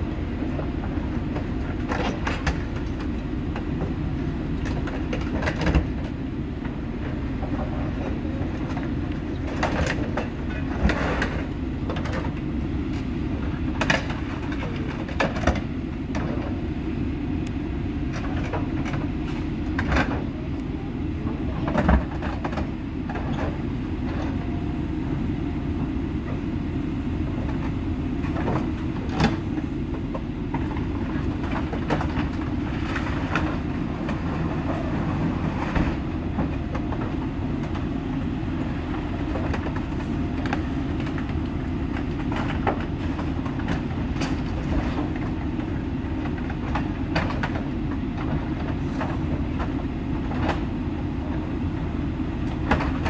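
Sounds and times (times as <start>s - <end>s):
bus engine rumble: 0.0s - 53.0s
rattles and clunks: 0.4s - 16.6s, 18.0s - 20.6s, 21.2s - 26.6s, 27.2s - 51.5s, 52.4s - 53.0s.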